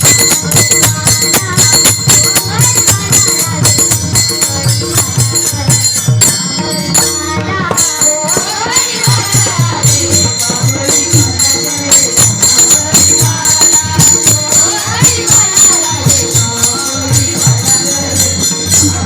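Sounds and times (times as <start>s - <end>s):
drum strokes: 0.0s - 19.0s
jingling percussion: 0.0s - 19.0s
person singing: 0.0s - 19.0s.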